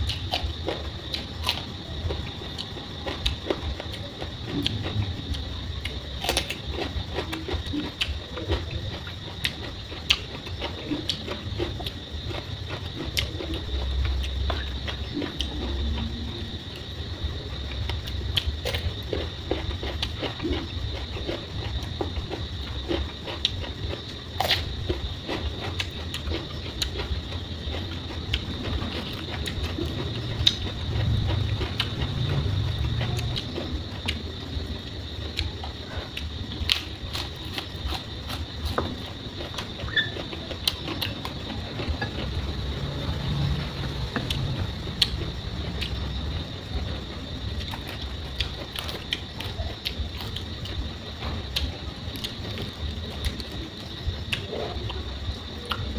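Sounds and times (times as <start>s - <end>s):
person chewing crunchy vegetables: 0.0s - 55.9s.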